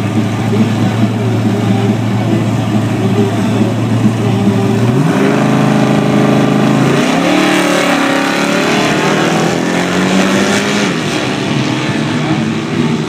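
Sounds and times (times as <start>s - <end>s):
drag racing engine accelerating: 0.0s - 13.0s.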